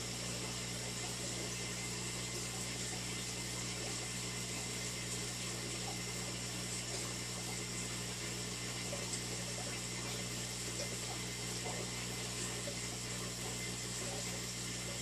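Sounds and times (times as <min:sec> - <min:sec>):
circulating water: 0:00.0 - 0:15.0
low pump hum: 0:00.0 - 0:15.0.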